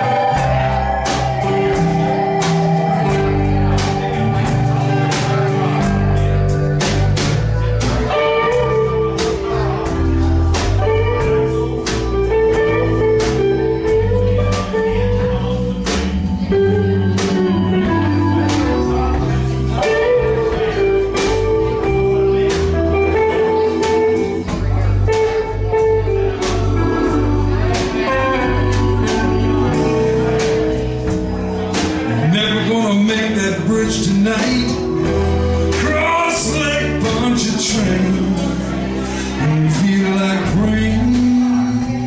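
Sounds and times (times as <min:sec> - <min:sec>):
acoustic guitar strumming: 0:00.0 - 0:42.0
bass line: 0:00.0 - 0:42.0
drums: 0:00.0 - 0:42.0.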